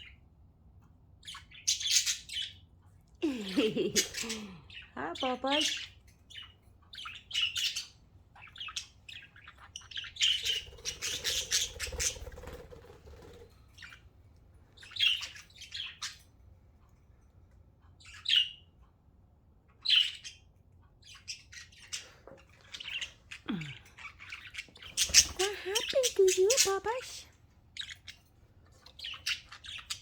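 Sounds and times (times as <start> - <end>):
budgerigars squawking and chirping: 1.2 - 2.8, 3.5 - 14.1, 14.7 - 16.3, 18.0 - 18.8, 19.7 - 30.0.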